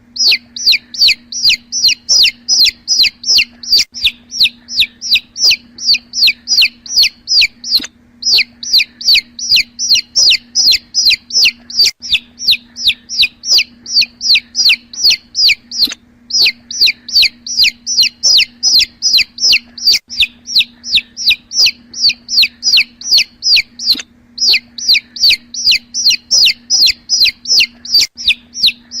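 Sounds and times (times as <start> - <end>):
chicks peeping: 0.0 - 29.0
low hum: 0.0 - 29.0.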